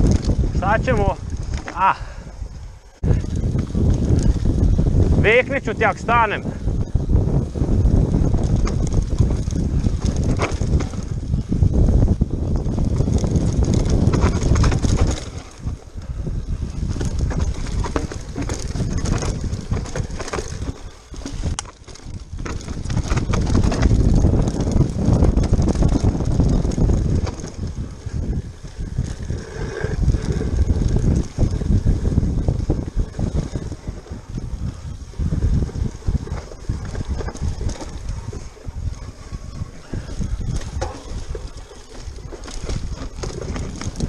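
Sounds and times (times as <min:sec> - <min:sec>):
bike rattling over bumps: 0:00.0 - 0:44.0
tyres on dirt: 0:00.0 - 0:44.0
wind buffeting microphone: 0:00.0 - 0:44.0.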